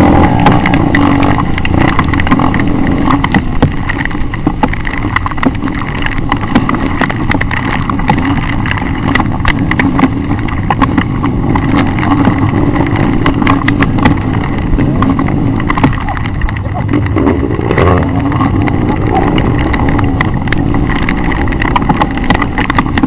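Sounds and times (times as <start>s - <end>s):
bike knocking and rattling: 0.0s - 23.0s
dirt bike engine running: 0.0s - 23.0s.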